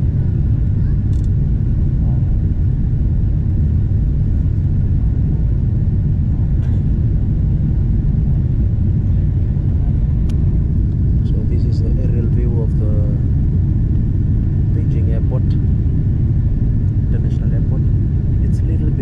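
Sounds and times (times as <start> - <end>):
jet engine rumble inside cabin: 0.0 - 19.0.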